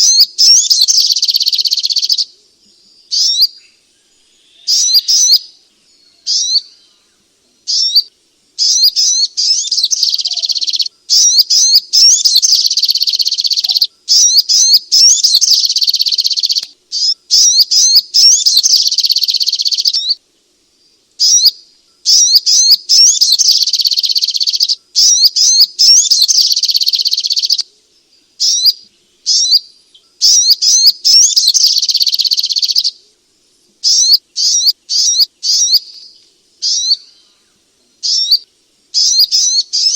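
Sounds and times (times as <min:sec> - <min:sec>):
bird high-pitched chattering song: 0:00.0 - 0:02.3, 0:03.1 - 0:03.6, 0:04.6 - 0:05.5, 0:06.2 - 0:06.8, 0:07.7 - 0:20.2, 0:21.2 - 0:27.6, 0:28.4 - 0:33.0, 0:33.8 - 0:37.2, 0:38.0 - 0:39.9.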